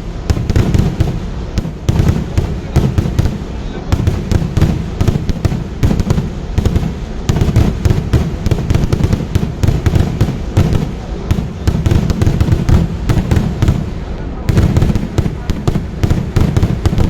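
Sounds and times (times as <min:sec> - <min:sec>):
firecracker bangs: 0:00.0 - 0:17.0.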